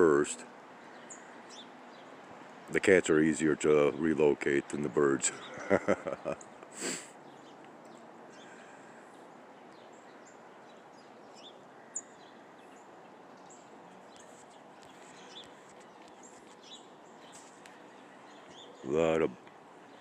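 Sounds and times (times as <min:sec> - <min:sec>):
faint outdoor hiss: 0:00.0 - 0:20.0
small birds chirping: 0:00.0 - 0:20.0.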